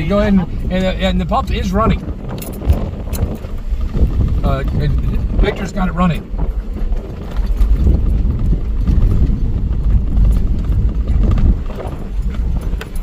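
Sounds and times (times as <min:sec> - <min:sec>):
vehicle rumbling over rough ground: 0:00.0 - 0:13.0
knocks and rattles: 0:00.1 - 0:13.0.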